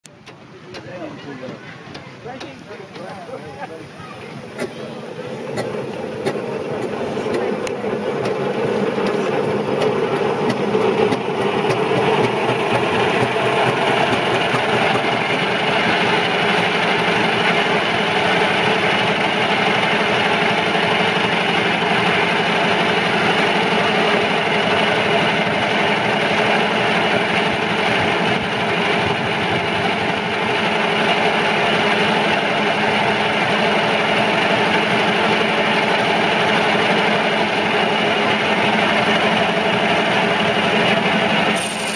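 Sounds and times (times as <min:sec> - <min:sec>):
circular log saw running: 0:02.4 - 0:41.9.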